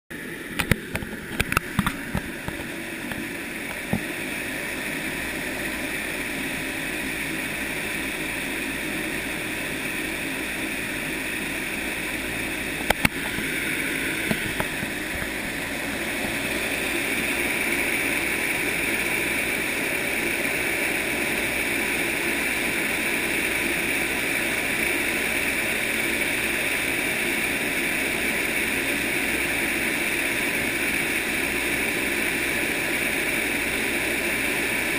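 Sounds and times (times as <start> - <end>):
wind tunnel fan rushing air: 0.2 - 34.9.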